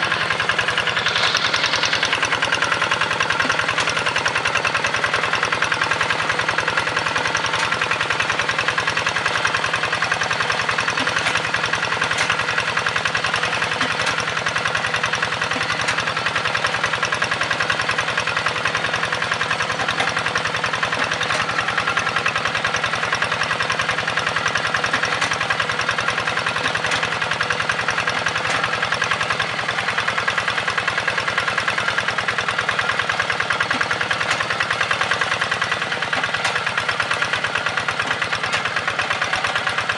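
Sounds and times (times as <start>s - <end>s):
hand tractor engine chugging: 0.0s - 39.9s.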